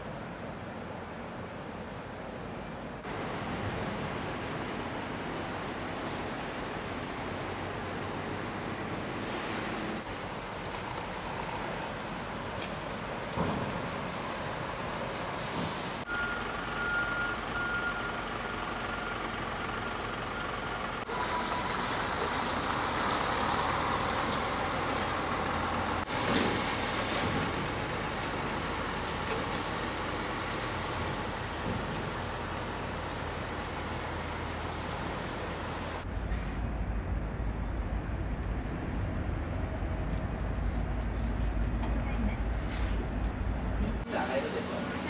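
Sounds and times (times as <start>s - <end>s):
trucks running: 0.0s - 45.0s.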